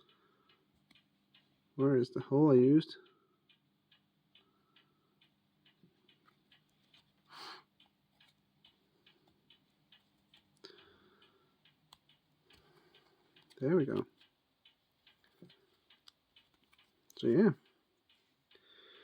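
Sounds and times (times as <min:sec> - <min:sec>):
faint mechanical ticking: 0:00.0 - 0:19.0.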